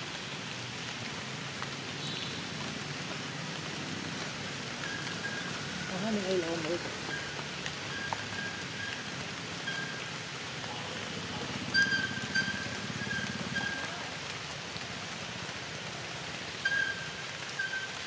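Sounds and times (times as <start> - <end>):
light rain hiss and patter: 0.0 - 18.0.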